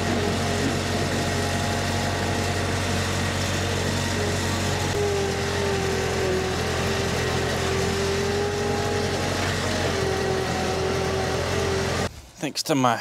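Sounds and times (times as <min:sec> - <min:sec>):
engine whine: 0:00.0 - 0:12.1
forklift engine running: 0:00.0 - 0:12.1.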